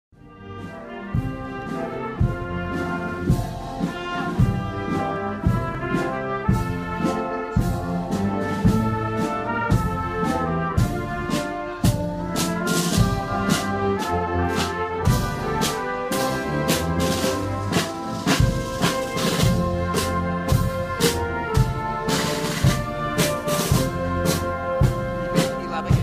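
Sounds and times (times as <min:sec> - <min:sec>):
brass chords: 0:00.1 - 0:26.0
steady drum beat: 0:00.2 - 0:26.0.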